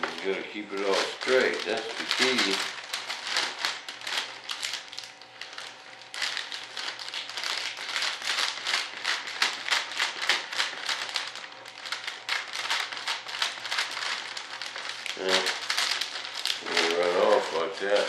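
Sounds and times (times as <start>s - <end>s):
plastic film crinkling and rustling: 0.0s - 18.0s.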